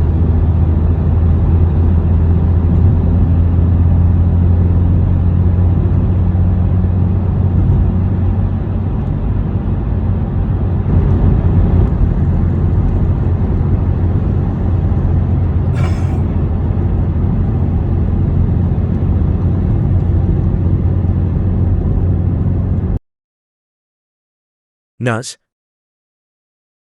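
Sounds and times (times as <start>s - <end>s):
car driving through tunnel: 0.0s - 23.0s.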